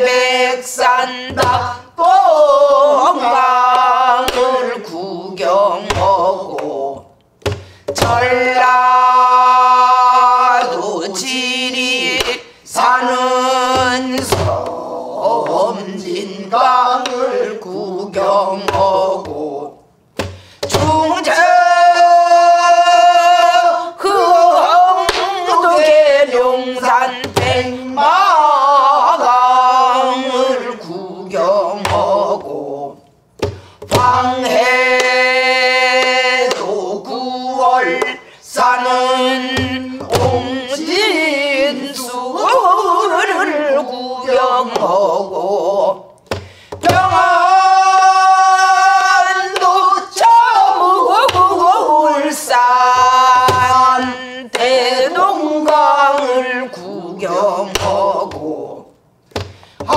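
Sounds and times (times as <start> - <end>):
woman singing with vibrato: 0.0 - 59.1.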